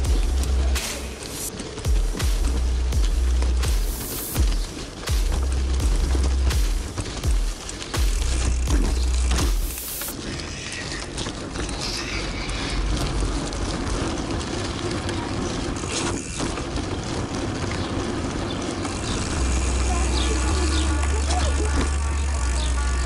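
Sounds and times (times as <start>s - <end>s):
bike rattles and clicks: 0.0s - 23.0s
tyre hum: 0.0s - 23.0s.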